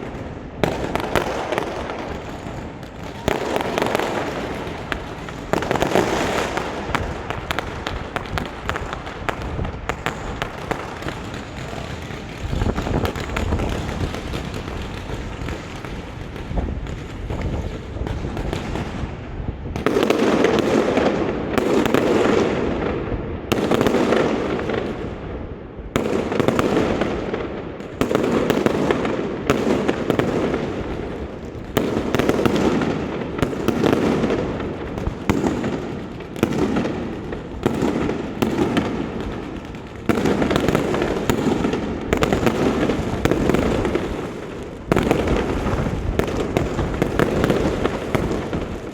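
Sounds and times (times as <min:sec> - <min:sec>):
fireworks crackling and popping: 0:00.0 - 0:48.9
loud firework bursts: 0:00.0 - 0:48.9.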